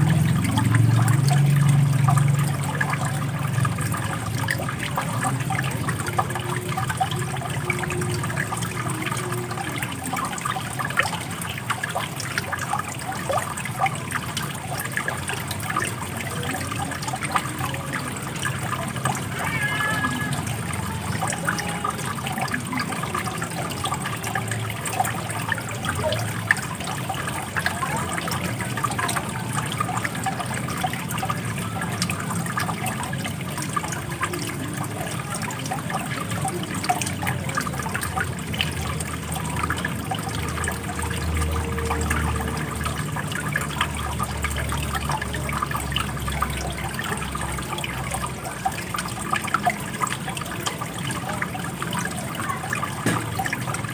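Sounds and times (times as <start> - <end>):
running water splashing: 0.0 - 53.9.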